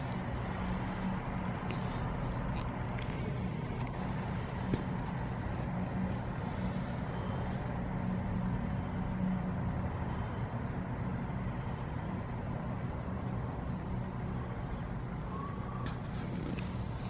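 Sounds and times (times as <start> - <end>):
low rumble and hum: 0.0 - 17.0.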